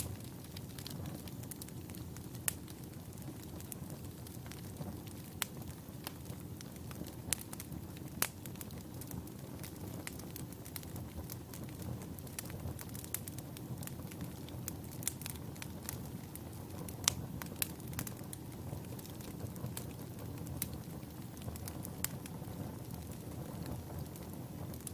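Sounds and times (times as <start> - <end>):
fire flames rumbling: 0.0 - 24.9
logs crackling and popping: 0.0 - 24.9.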